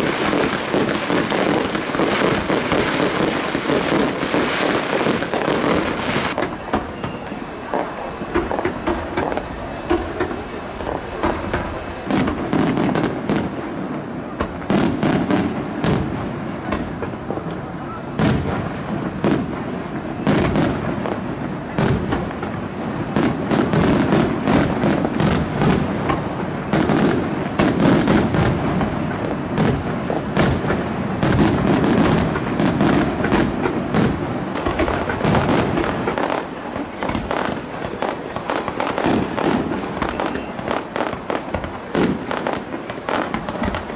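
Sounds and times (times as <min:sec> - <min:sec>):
fireworks cracking and popping: 0:00.0 - 0:43.9.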